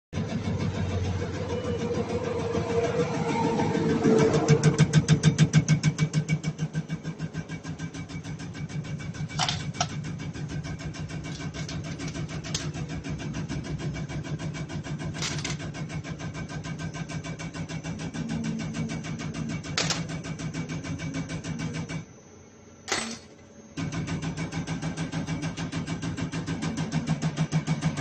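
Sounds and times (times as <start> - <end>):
test bench drive hum: 0.2 - 28.0.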